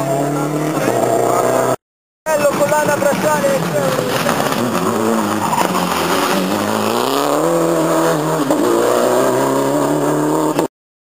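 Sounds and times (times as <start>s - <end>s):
rally car engine revving: 0.0s - 1.8s, 2.5s - 10.7s.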